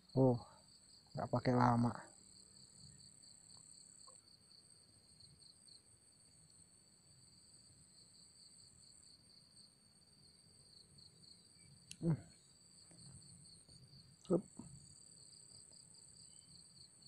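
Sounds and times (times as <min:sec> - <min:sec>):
insect chirring: 0:00.0 - 0:17.0.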